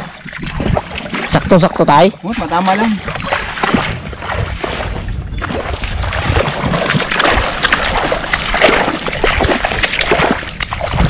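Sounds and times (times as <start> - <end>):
splashing footsteps in water: 0.0 - 11.0.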